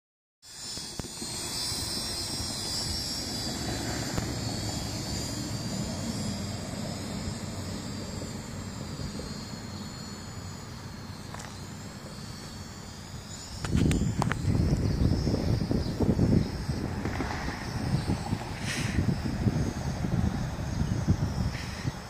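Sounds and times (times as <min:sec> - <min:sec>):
quadcopter motors whining: 0:00.4 - 0:22.0
wind rumbling on microphone: 0:00.7 - 0:22.0.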